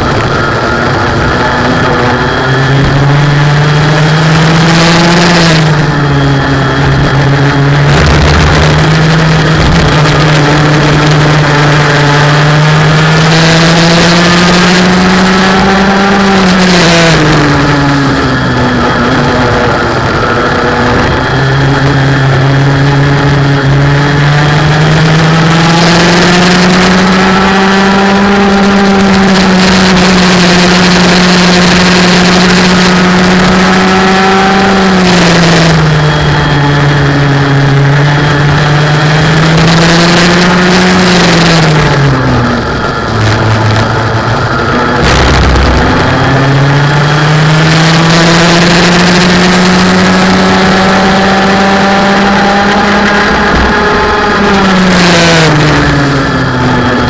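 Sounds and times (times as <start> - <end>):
race car engine under hard load: 0.0 - 57.0.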